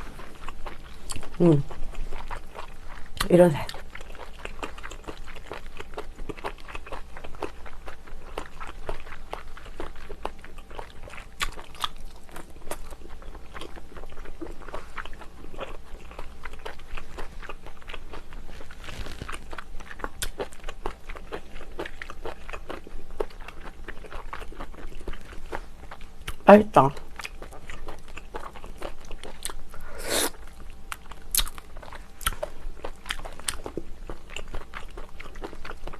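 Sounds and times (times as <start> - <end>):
person chewing: 0.0 - 26.4, 27.0 - 35.9.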